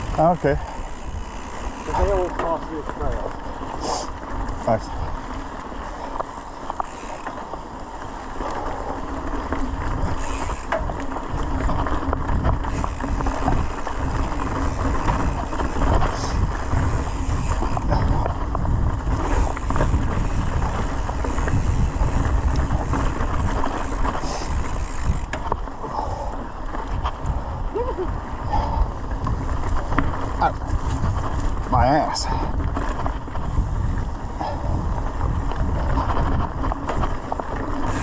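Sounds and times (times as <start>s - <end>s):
bike rattles and knocks: 0.0s - 38.0s
bike tyre and drivetrain noise: 0.0s - 38.0s
wind rumble on microphone: 0.0s - 38.0s.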